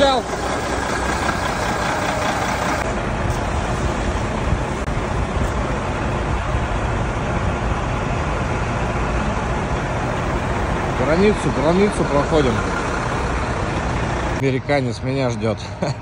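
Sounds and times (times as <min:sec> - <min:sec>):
road and wind noise: 0:00.0 - 0:16.0
truck engine drone: 0:00.0 - 0:16.0.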